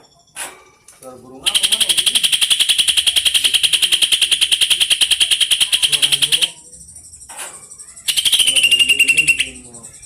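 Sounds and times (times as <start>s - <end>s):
bird singing rapid trill: 1.4s - 10.0s.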